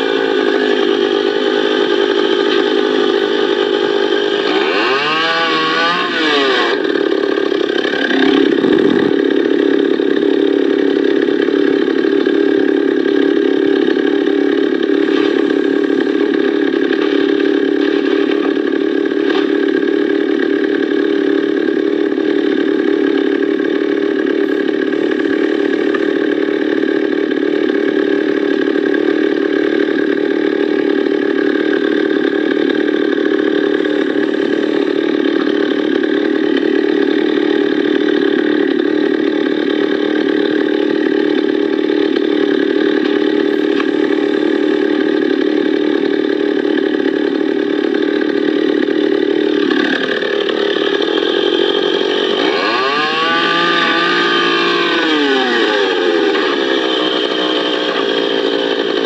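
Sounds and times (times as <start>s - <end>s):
chainsaw engine idling: 0.0s - 59.0s.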